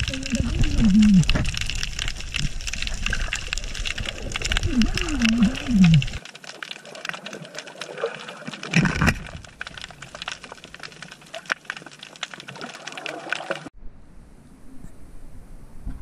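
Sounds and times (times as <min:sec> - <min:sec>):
underwater crackle of clicks: 0:00.0 - 0:13.7.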